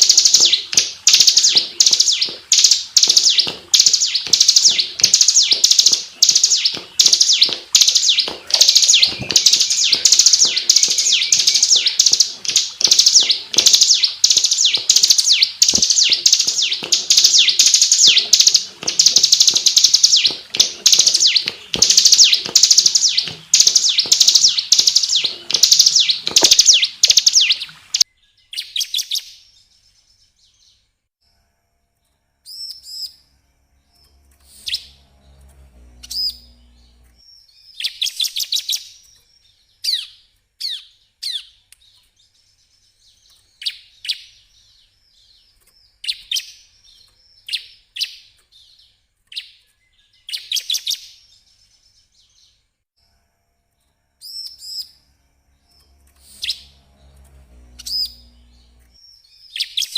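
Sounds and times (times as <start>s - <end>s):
bird singing high chirps: 0.0s - 30.8s, 32.5s - 52.6s, 54.2s - 59.9s.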